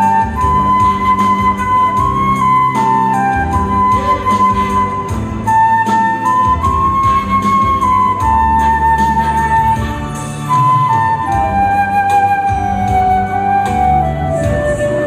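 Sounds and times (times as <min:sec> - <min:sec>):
backing accompaniment with bass: 0:00.0 - 0:15.0
flute playing slow melody: 0:00.0 - 0:15.0.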